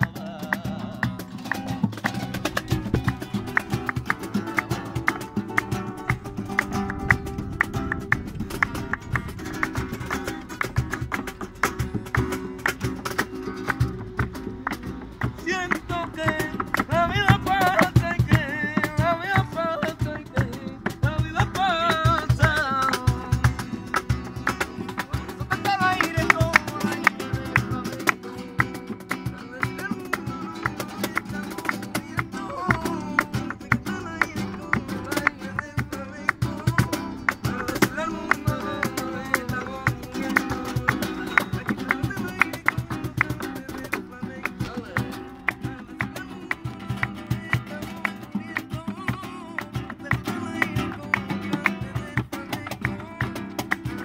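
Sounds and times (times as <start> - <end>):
acoustic guitars playing flamenco: 0.0 - 54.0
hand clapping: 0.0 - 54.0
man singing: 0.0 - 54.0.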